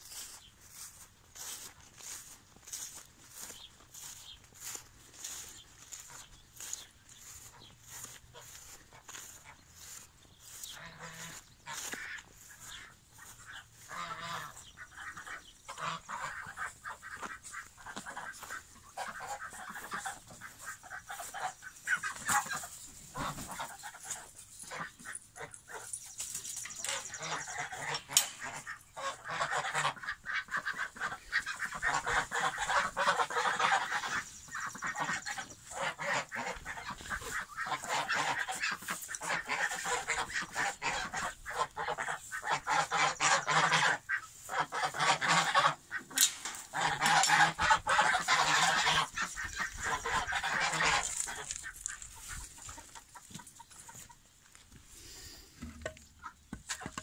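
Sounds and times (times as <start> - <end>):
geese honking: 0.0 - 54.2.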